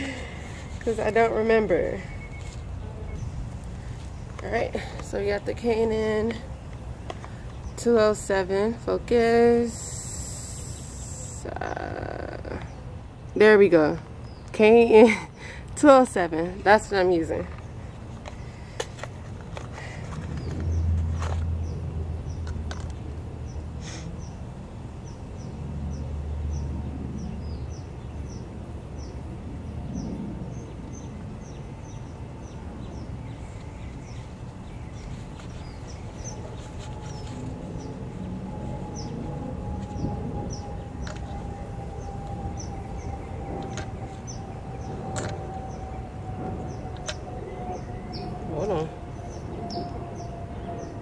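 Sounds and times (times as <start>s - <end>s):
low rumble: 0.0s - 14.9s, 16.3s - 51.0s.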